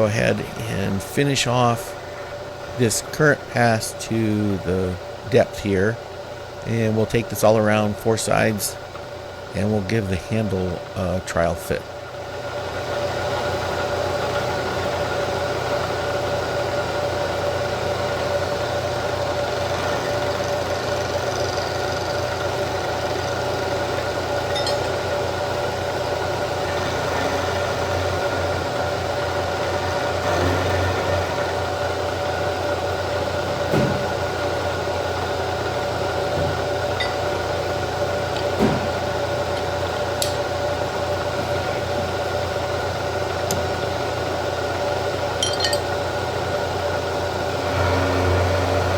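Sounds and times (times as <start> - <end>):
milling machine cutting metal: 0.0 - 48.9.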